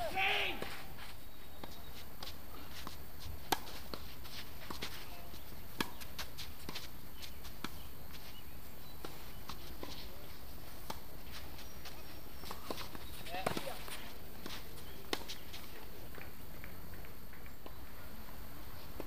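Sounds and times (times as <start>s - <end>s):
footsteps scuffing on court: 0.0s - 17.9s
tennis balls struck by rackets: 1.5s - 8.4s, 9.0s - 17.8s.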